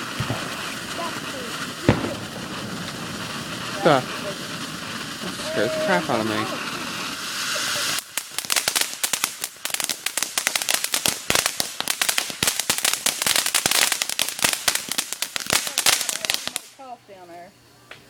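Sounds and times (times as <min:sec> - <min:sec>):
firework crackling: 0:00.0 - 0:17.5.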